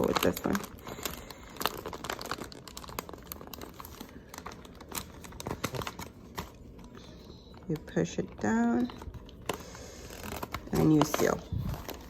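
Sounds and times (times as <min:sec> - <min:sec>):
chip bag crinkling: 0:00.0 - 0:12.0.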